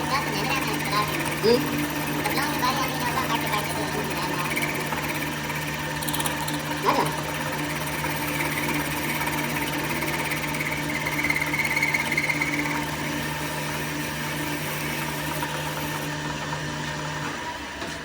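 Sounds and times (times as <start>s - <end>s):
workshop machine motor humming: 0.0s - 18.0s.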